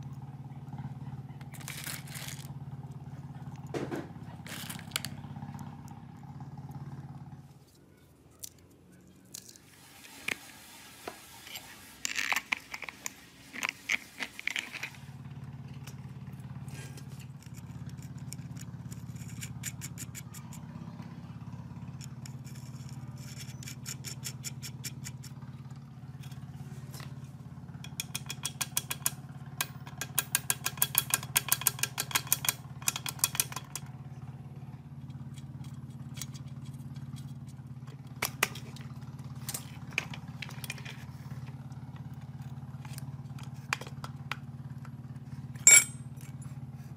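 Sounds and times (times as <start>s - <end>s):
low mechanical hum: 0.0s - 46.9s.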